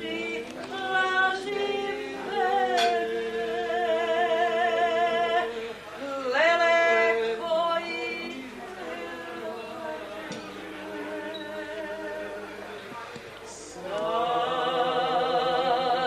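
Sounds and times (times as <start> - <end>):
person singing with vibrato: 0.0 - 12.7, 13.5 - 16.0.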